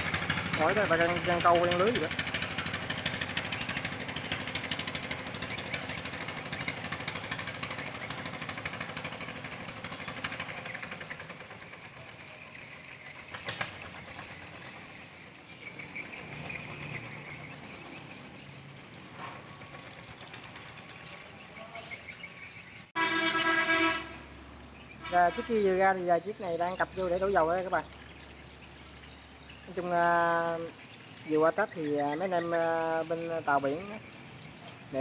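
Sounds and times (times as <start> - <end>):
boat engine chugging: 0.0 - 35.0.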